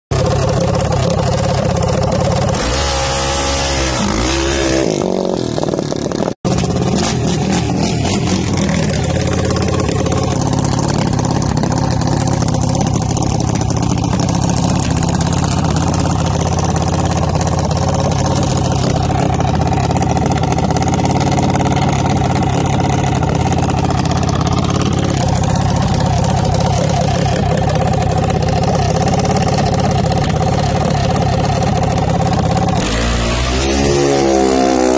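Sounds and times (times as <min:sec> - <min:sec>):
engine idling: 0:00.1 - 0:34.9
dragster engine revving: 0:00.2 - 0:34.9.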